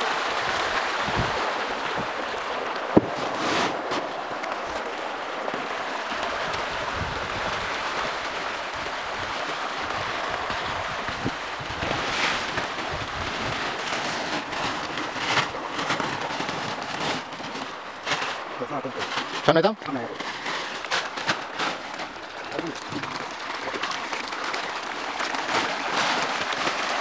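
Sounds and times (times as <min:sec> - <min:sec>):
fish splashing at surface: 0:00.0 - 0:19.5, 0:20.1 - 0:27.0.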